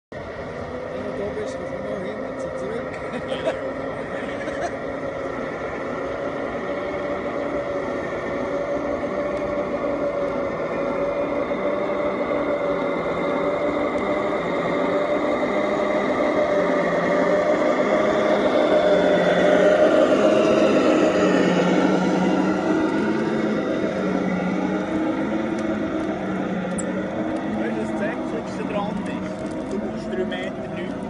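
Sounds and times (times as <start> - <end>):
model truck motor humming: 0.2 - 31.0.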